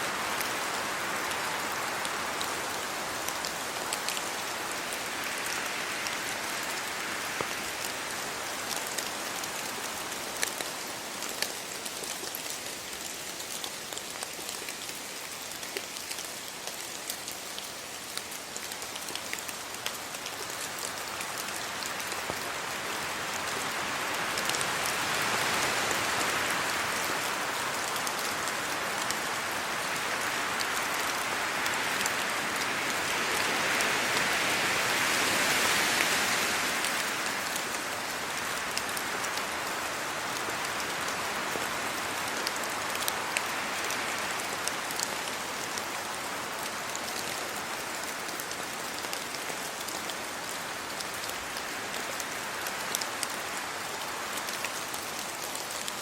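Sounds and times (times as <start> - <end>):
rain falling on leaves and road: 0.0 - 56.0
wind: 0.0 - 56.0.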